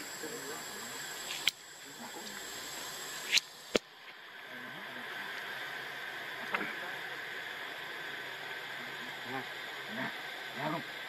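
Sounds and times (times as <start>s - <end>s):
forest ambience hiss: 0.0s - 11.0s.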